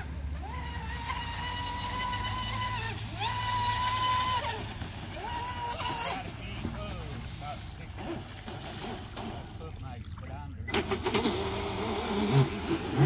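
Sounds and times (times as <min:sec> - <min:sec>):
model boat motor whining: 0:00.0 - 0:13.0.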